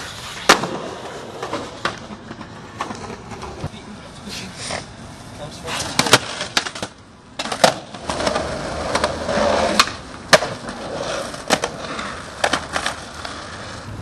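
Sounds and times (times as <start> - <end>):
skateboard clacking on ground: 0.0 - 5.0, 5.6 - 13.9
skateboard wheels rolling on concrete: 0.0 - 14.0.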